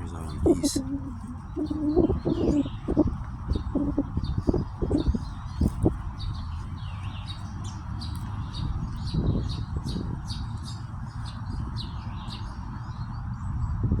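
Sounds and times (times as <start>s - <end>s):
small birds chirping: 0.0s - 13.8s
steady low rumble: 0.0s - 14.0s.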